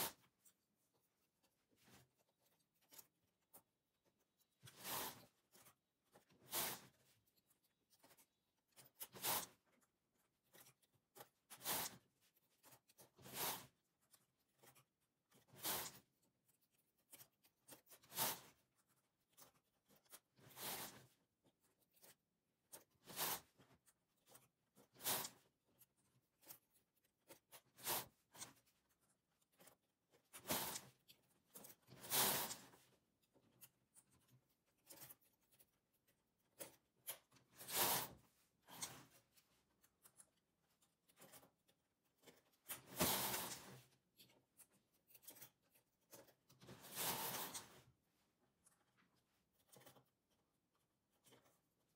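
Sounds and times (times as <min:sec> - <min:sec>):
knitting machine scratchy strokes: 0:04.4 - 0:41.6, 0:42.2 - 0:48.0.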